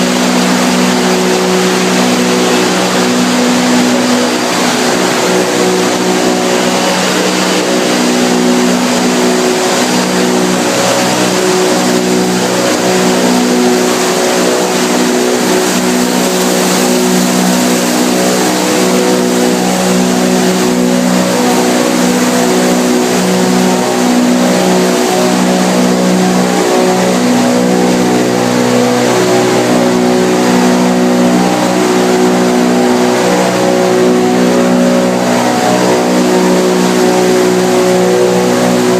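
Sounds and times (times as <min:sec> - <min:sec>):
constant noisy rush: 0:00.0 - 0:38.9
loud machine hum: 0:00.0 - 0:38.9.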